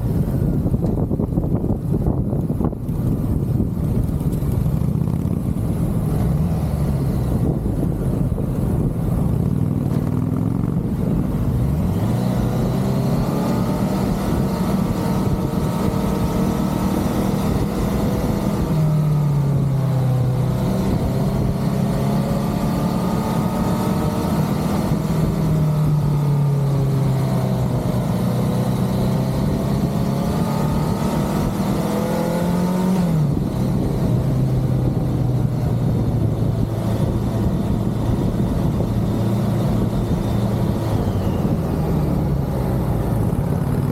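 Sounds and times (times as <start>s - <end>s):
motorcycle engine revving: 0.0s - 43.9s
wind and road rumble: 0.0s - 43.9s.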